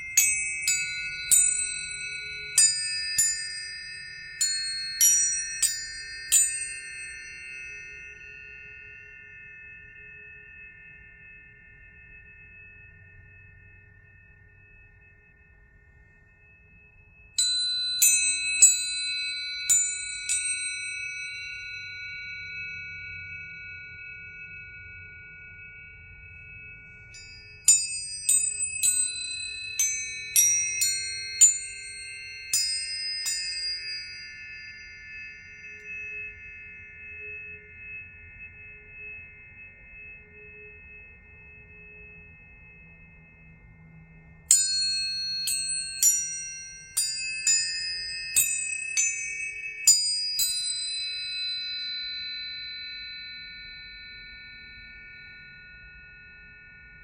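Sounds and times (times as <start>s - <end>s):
tuning forks struck and ringing: 0.0s - 57.0s.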